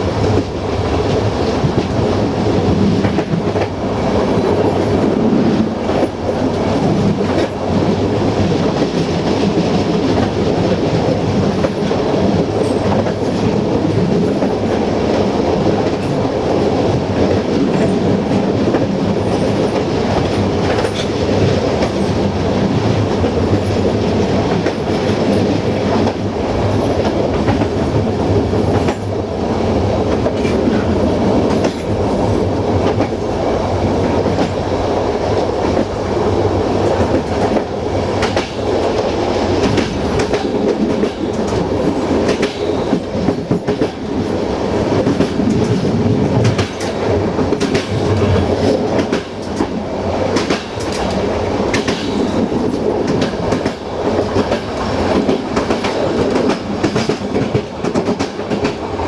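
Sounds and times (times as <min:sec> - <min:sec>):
train wheels clattering over rail joints: 0:00.2 - 0:22.4, 0:23.0 - 0:33.5, 0:36.8 - 0:59.0.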